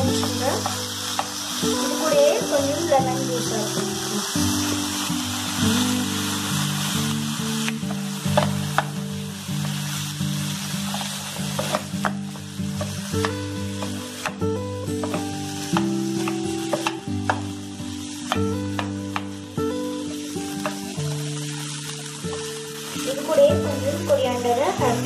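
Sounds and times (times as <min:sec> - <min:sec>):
prawns sizzling in hot oil: 0:00.0 - 0:25.0.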